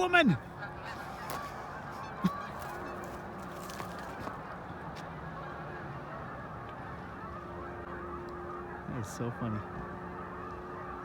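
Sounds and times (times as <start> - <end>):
flock of geese honking: 0.0 - 11.0.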